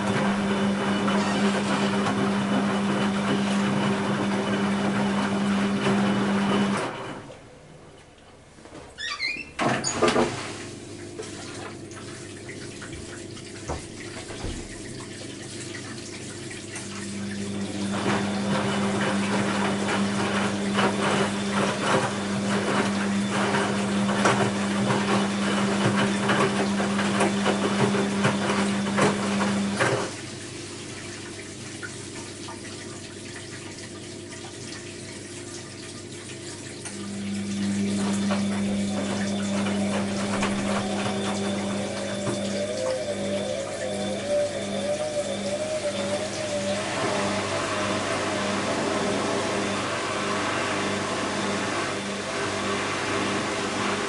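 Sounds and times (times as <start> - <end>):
washing machine water rushing: 0.0 - 54.0.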